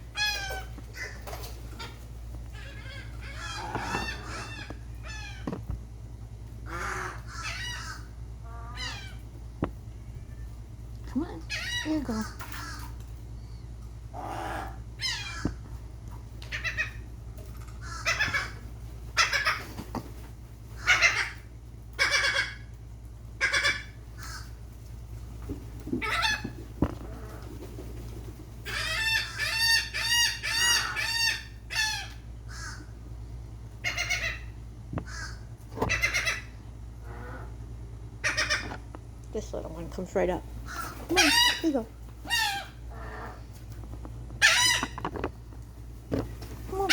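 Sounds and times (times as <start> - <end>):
gulls yelping: 0.0 - 6.0, 6.6 - 10.6, 11.2 - 20.0, 20.7 - 22.8, 23.4 - 24.6, 25.8 - 39.2, 40.6 - 45.5
gulls calling: 0.0 - 20.1, 20.7 - 24.7, 25.5 - 46.9.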